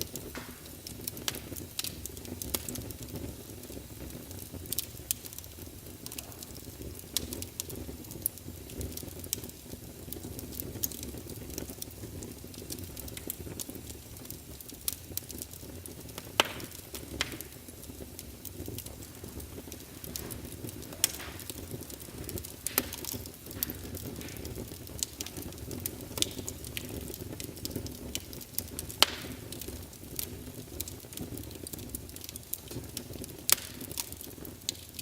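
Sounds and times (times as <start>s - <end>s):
fire rumbling: 0.0s - 35.0s
logs crackling and popping: 0.0s - 35.0s.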